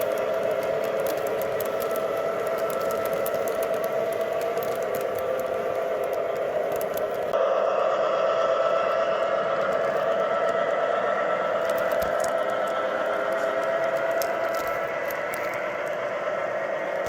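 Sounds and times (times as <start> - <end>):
wheels clicking over track: 0.0 - 7.4, 9.6 - 17.0
diesel engine drone: 0.0 - 17.0.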